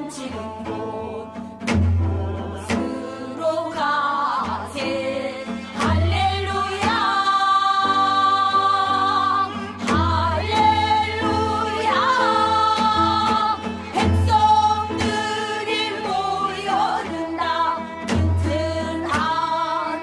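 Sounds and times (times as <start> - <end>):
instrumental accompaniment: 0.0 - 20.0.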